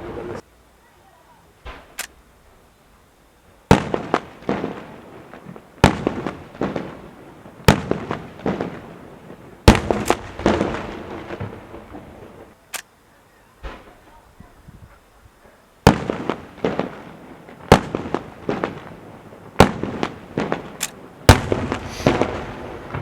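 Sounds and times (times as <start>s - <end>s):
fireworks bangs: 0.0s - 0.4s, 1.5s - 2.2s, 3.6s - 12.7s, 13.5s - 23.0s
fireworks crackling: 0.0s - 23.0s.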